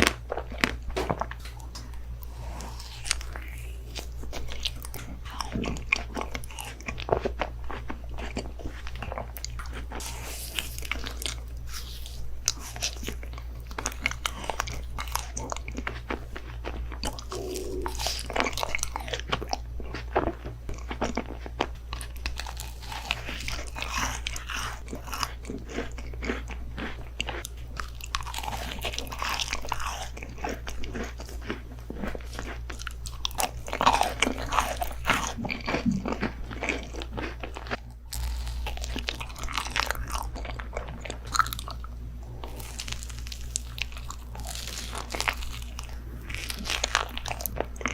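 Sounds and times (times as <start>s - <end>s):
crunchy chewing: 0.0s - 47.9s
steady low hum: 0.0s - 47.9s.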